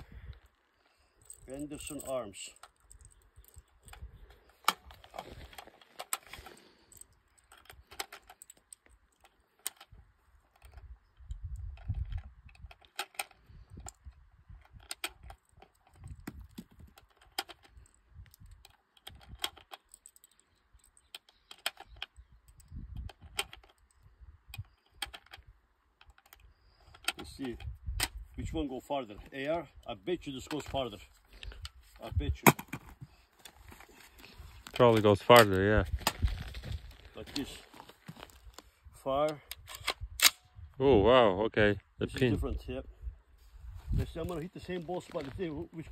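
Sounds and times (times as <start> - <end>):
rifle clicks and metallic rattles: 0.3 - 40.6.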